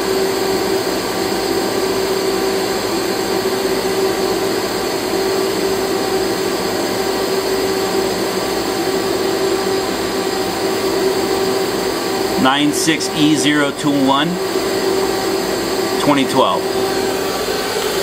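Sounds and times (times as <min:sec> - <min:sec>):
machinery whirring with hum: 0:00.0 - 0:18.0.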